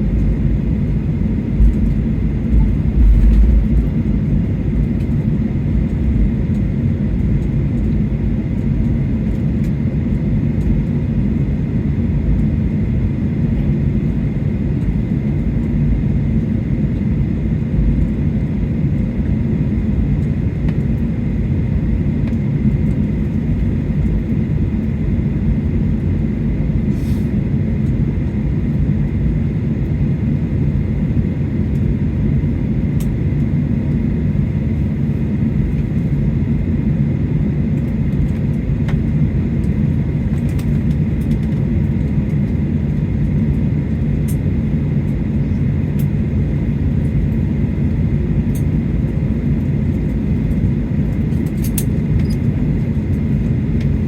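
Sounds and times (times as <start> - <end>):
aircraft cabin low rumble: 0.0 - 54.0
faint steady whine: 0.0 - 54.0.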